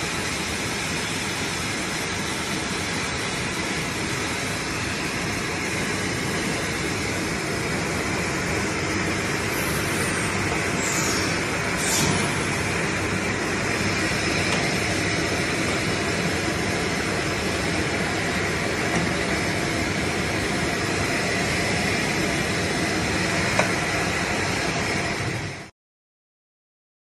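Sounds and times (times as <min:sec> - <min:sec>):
machine running: 0:00.0 - 0:25.7.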